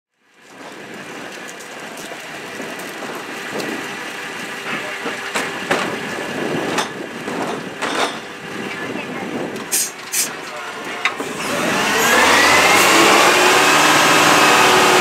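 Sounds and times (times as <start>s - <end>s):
wheeled cart rattling over pavement: 0.2s - 13.1s
garbage truck idling: 0.6s - 15.0s.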